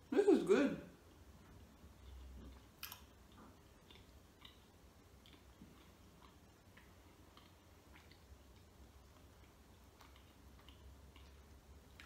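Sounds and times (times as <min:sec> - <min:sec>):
person chewing: 0:01.0 - 0:12.0.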